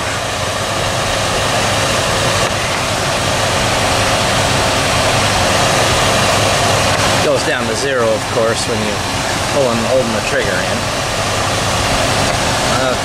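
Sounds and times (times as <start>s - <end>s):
air conditioning rushing: 0.0s - 13.0s
engine idling: 0.0s - 13.0s.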